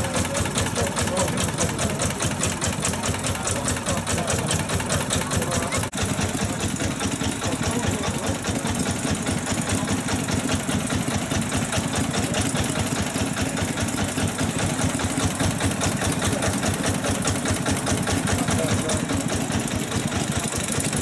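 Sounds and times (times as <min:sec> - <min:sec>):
stationary engine chugging at idle: 0:00.0 - 0:21.0.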